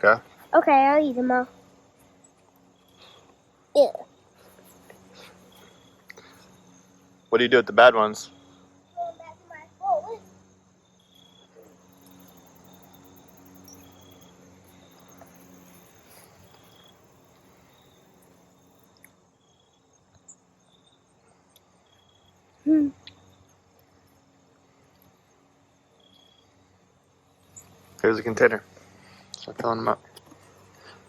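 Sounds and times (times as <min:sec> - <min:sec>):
crickets chirping: 0:00.0 - 0:31.0.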